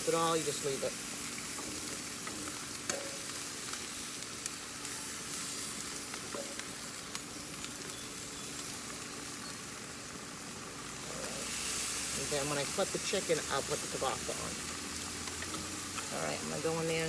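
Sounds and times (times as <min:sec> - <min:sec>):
food sizzling on grill: 0:00.0 - 0:17.0.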